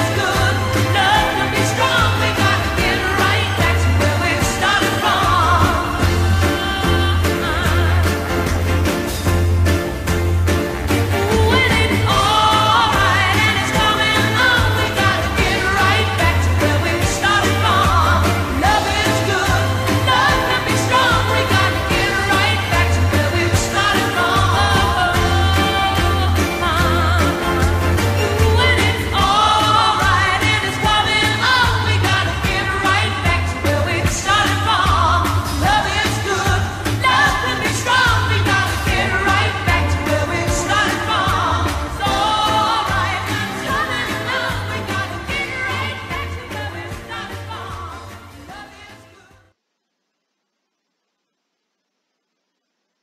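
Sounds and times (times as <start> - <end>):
pulsing bass: 0.0 - 48.0
pop song with singer: 0.0 - 49.6.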